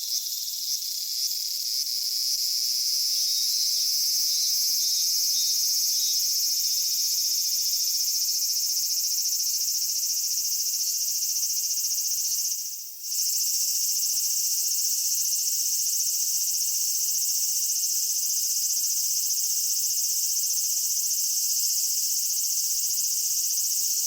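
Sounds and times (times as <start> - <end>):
cicadas buzzing in chorus: 0.0 - 24.0.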